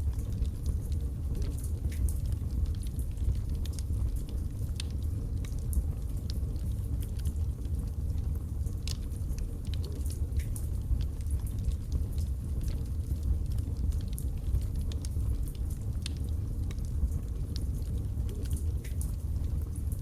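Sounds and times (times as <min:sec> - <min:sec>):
burning wood crackling and popping: 0:00.0 - 0:20.0
fire rumbling: 0:00.0 - 0:20.0.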